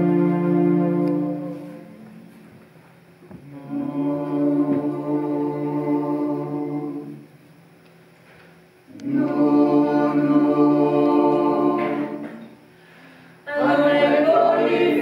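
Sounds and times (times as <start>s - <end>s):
vocal ensemble singing held chords: 0.0s - 2.4s, 3.4s - 7.6s, 8.9s - 15.0s.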